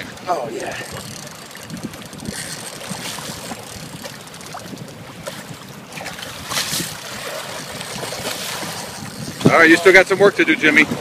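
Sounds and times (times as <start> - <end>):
small water splashes: 0.0 - 9.5
shallow water sloshing: 0.0 - 11.0.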